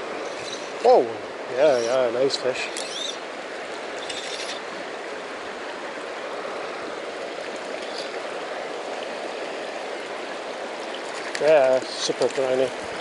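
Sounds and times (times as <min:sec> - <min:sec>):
stream flowing over gravel: 0:00.0 - 0:13.0.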